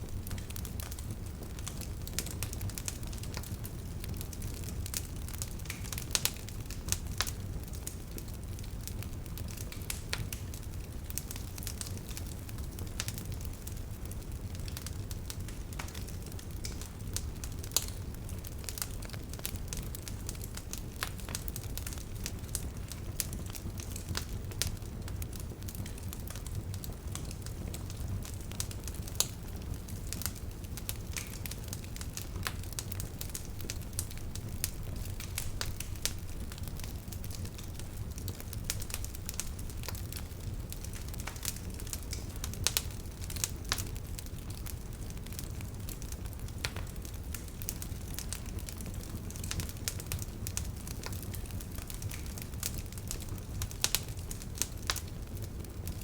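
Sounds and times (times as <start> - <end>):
wood bonfire crackling: 0.0 - 56.0.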